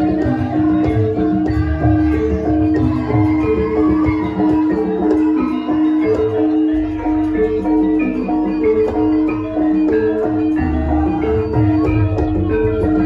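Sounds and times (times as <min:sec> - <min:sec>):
gamelan metallophones melody: 0:00.0 - 0:13.0.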